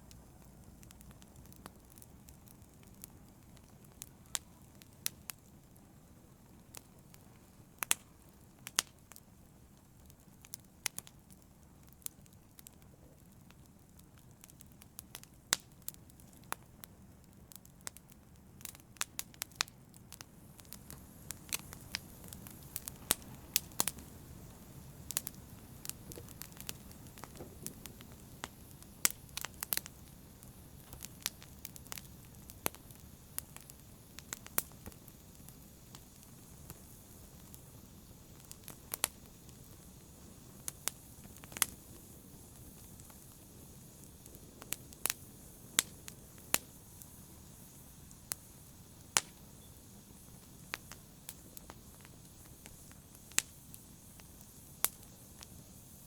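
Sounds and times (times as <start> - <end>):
fire crackling and popping: 0.0 - 56.0
soft rush of flames: 0.0 - 56.0.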